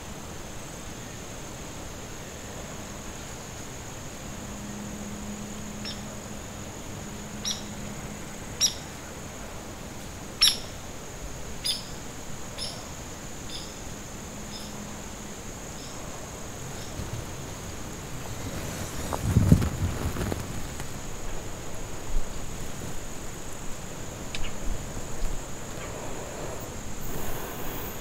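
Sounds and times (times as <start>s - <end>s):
high-pitched hiss: 0.0s - 28.0s.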